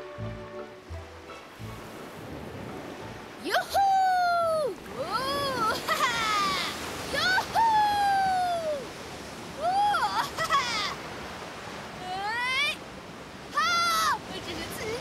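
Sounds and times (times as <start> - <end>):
surf and splashing water: 0.0 - 15.0.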